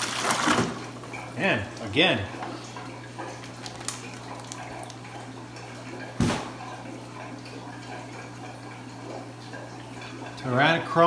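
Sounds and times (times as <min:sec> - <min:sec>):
water sloshing and dripping: 0:00.0 - 0:10.5.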